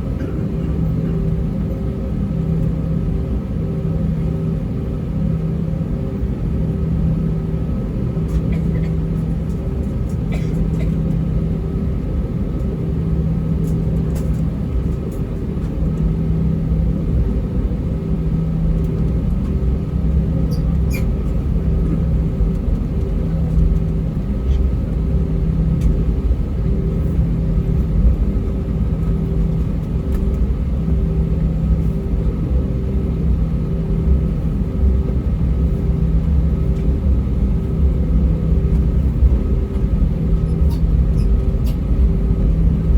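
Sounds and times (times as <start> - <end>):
aircraft engines idling: 0.0 - 42.9.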